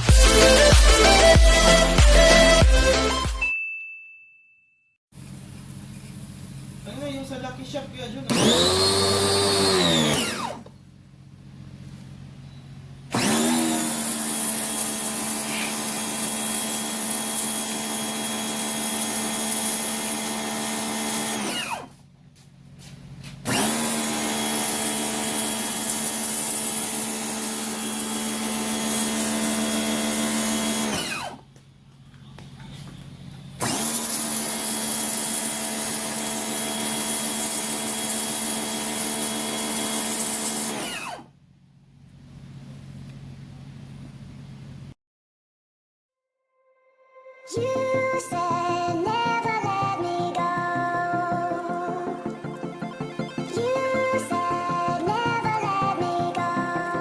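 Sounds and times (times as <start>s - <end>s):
pressure washer motor whining: 5.2s - 44.8s, 47.6s - 57.0s.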